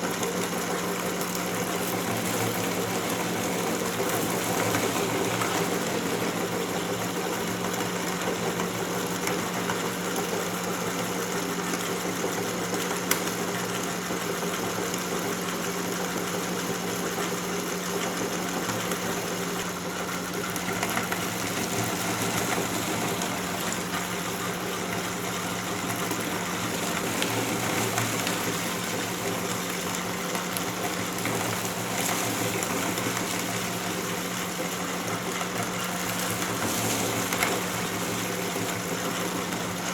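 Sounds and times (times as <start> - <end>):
meat grinder motor humming: 0.0 - 39.9.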